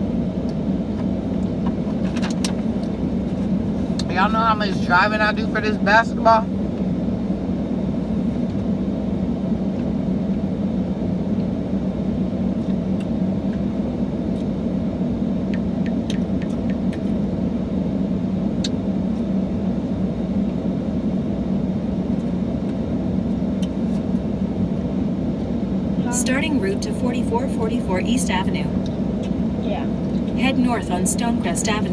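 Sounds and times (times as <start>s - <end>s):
car engine rumble inside cabin: 0.0s - 31.9s.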